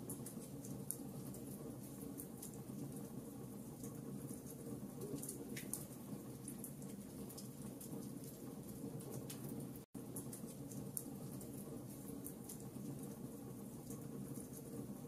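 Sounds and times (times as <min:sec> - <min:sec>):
fire crackling and popping: 0:00.0 - 0:14.9.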